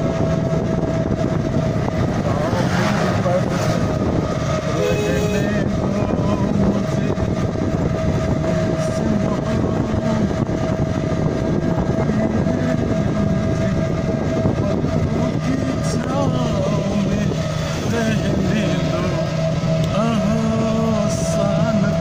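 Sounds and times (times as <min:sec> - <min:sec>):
road noise: 0:00.0 - 0:22.0
steady tone: 0:00.0 - 0:22.0.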